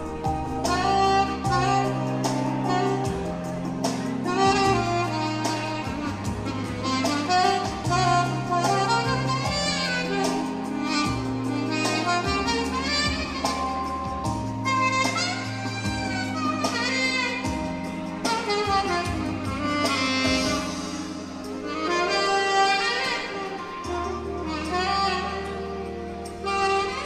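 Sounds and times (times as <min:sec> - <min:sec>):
held bass notes: 0:00.0 - 0:27.0
jazzy lead melody: 0:00.0 - 0:27.0.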